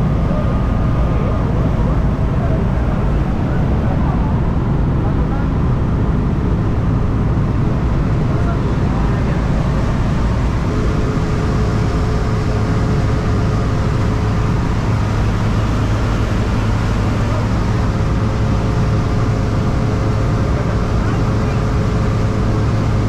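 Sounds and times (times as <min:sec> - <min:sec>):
airplane engine and propeller drone: 0:00.0 - 0:23.0.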